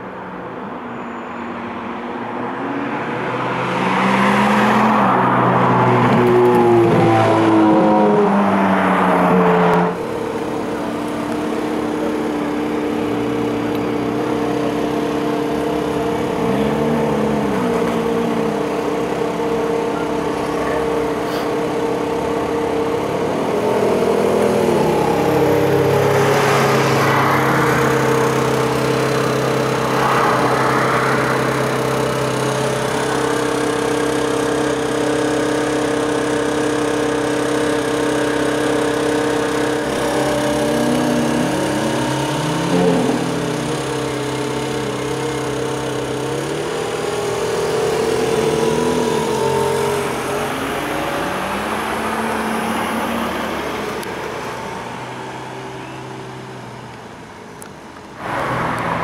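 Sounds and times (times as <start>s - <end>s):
car engine idling: 2.0s - 59.0s.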